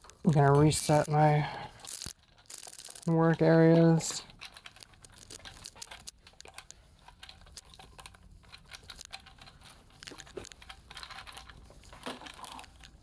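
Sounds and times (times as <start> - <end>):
small parts rustling: 0.0 - 13.0.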